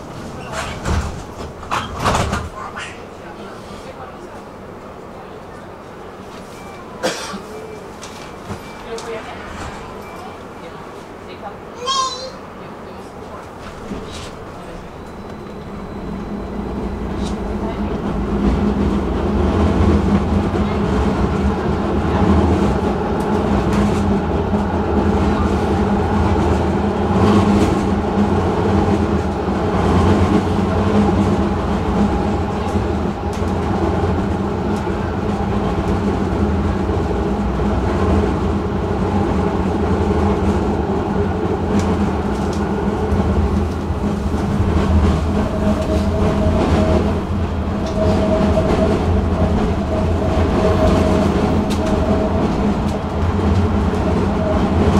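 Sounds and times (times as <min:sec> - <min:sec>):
rail clicks: 0:00.0 - 0:03.0, 0:13.1 - 0:54.9
tram wheels rumbling: 0:00.0 - 0:54.9.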